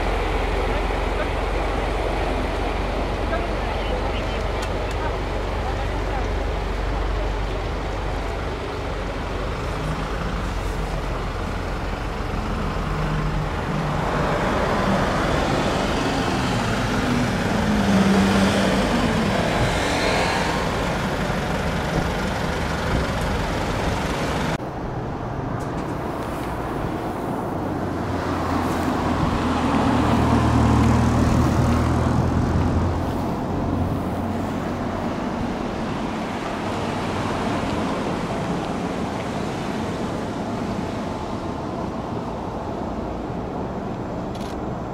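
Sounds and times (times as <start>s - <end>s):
truck engine driving past: 0.0s - 38.9s
cars passing: 0.0s - 44.9s
low engine hum: 0.0s - 44.9s.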